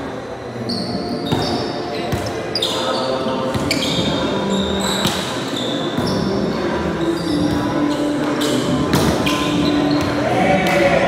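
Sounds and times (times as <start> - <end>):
sneakers squeaking on floor: 0.5 - 10.3.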